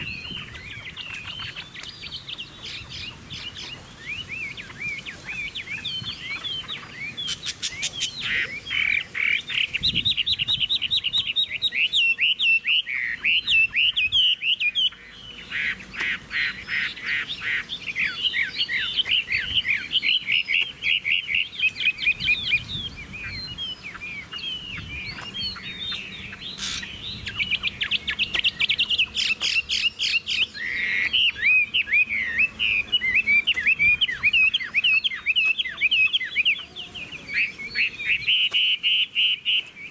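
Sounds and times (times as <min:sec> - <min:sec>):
bird singing trills and warbles: 0:00.0 - 0:39.9.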